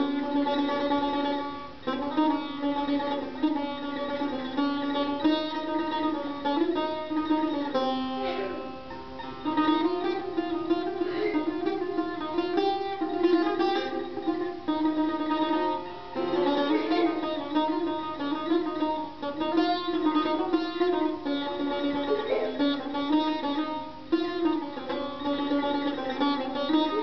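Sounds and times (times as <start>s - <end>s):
plucked lute melody: 0.0s - 27.0s.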